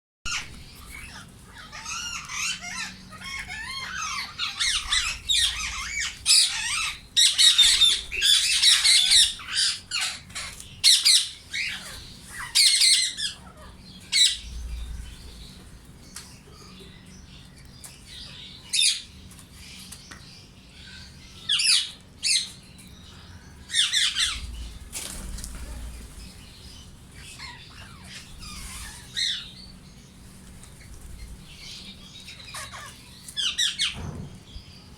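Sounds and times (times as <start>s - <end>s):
parakeets screeching: 0.3s - 15.6s, 20.8s - 34.1s.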